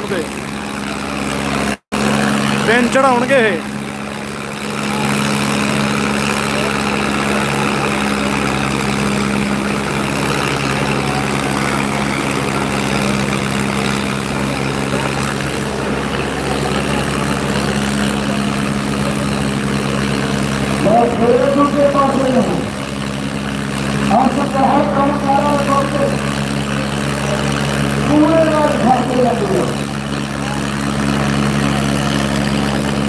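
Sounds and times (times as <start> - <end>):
tractor diesel engines under load: 0.0 - 33.0.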